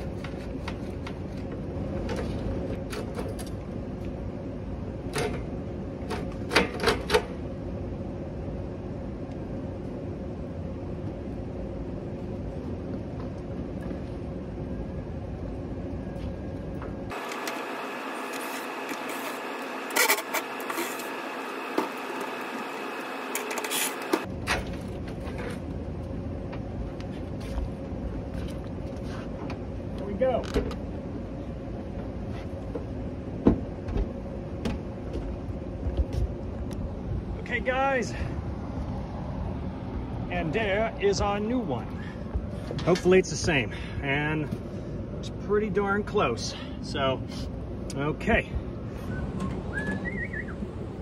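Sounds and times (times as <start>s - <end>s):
steady background rumble: 0.0s - 17.2s, 24.2s - 51.0s.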